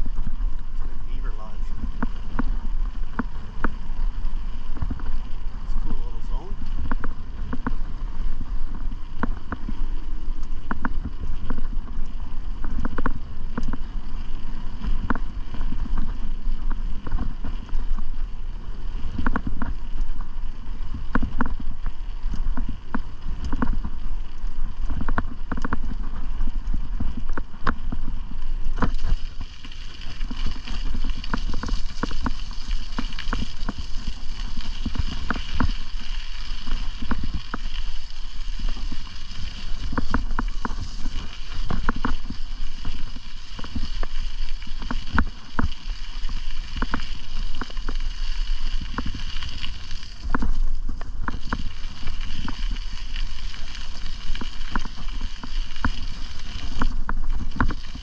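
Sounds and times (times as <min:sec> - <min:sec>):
bicycle rattling over bumps: 0:00.0 - 0:58.0
wind rushing over microphone: 0:00.0 - 0:58.0.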